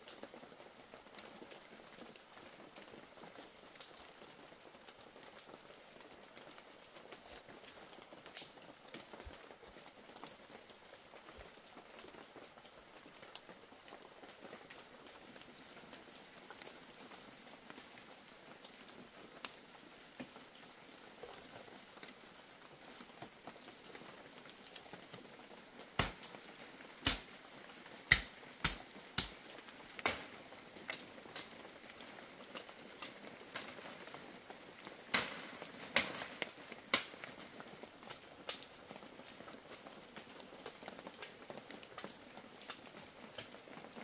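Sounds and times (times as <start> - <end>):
faint background noise: 0.0 - 44.0.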